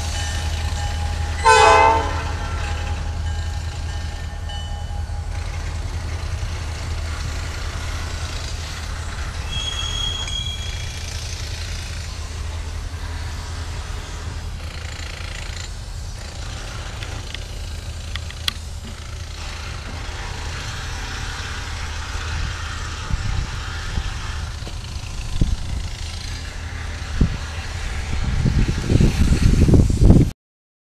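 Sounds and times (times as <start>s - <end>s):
diesel locomotive rumbling: 0.0s - 30.3s
outdoor background noise: 0.0s - 30.3s.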